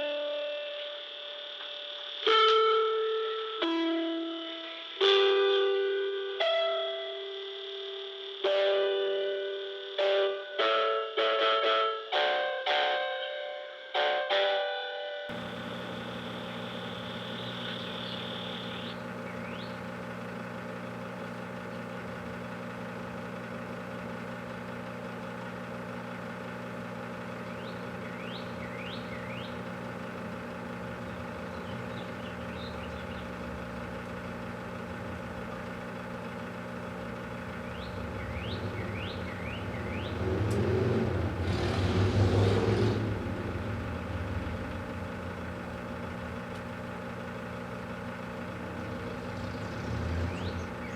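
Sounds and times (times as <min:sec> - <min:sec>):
microwave oven humming: 0:00.0 - 0:50.9.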